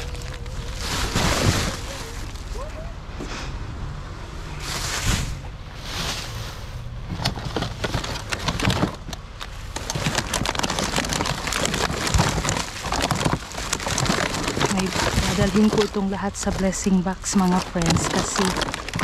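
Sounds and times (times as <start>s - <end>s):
plastic bags rustling and crinkling: 0.0s - 2.8s, 4.5s - 19.0s.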